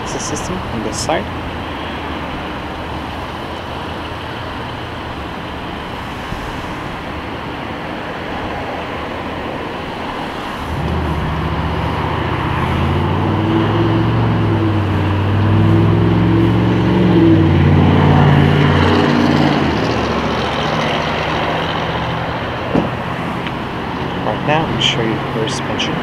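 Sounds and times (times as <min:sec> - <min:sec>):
low engine hum: 0:00.0 - 0:26.0
traffic noise: 0:00.0 - 0:26.0.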